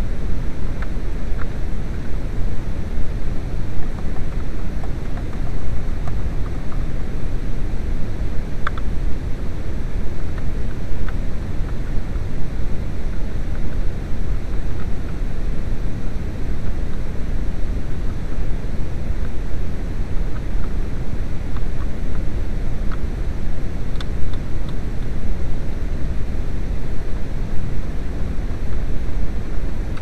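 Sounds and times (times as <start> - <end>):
steady low rumbling: 0.0 - 30.0.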